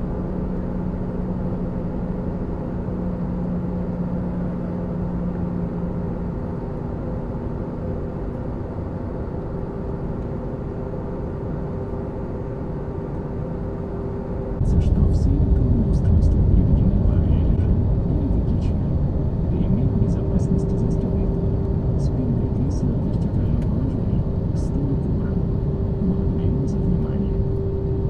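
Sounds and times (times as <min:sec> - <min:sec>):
aircraft cabin engine rumble: 0:00.0 - 0:28.0
higher hum: 0:00.0 - 0:28.0
low hum: 0:00.0 - 0:28.0.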